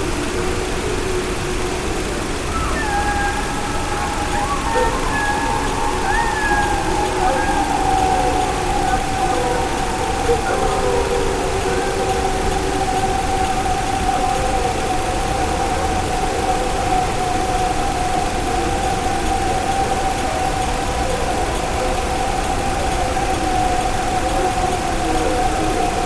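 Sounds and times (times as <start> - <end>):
background hiss: 0.0 - 26.0
long howl-like tone: 0.0 - 26.0
faint wavering tones: 1.9 - 26.0.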